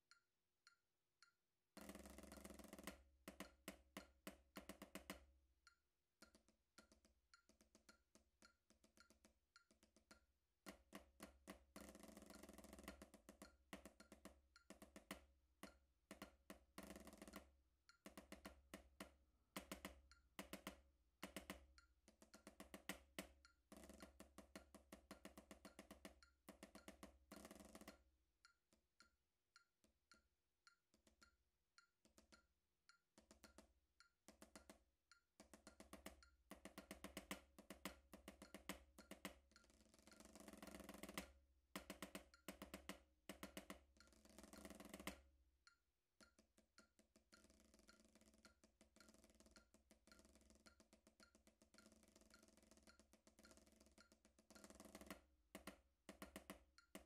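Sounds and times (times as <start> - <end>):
metronome clicking: 0.0 - 18.6, 19.6 - 57.0.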